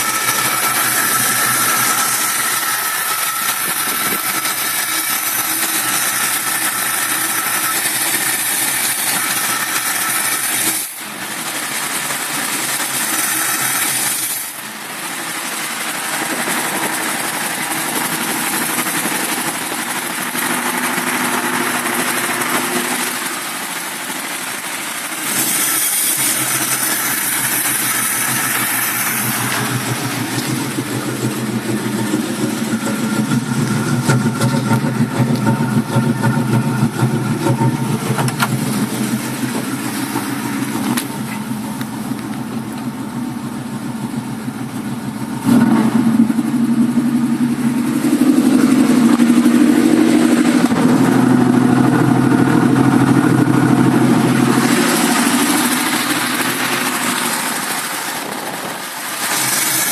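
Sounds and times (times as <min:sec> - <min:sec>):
car engine rough idle: 0:00.0 - 0:59.9.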